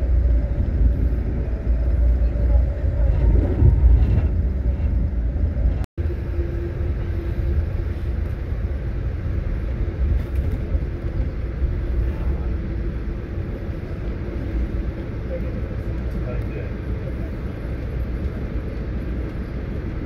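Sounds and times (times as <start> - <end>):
train rumbling at speed: 0.0 - 20.0.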